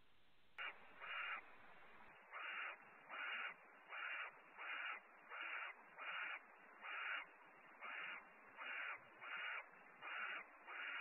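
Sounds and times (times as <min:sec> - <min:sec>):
barn owl rasping calls: 0:00.6 - 0:01.5, 0:02.2 - 0:11.0.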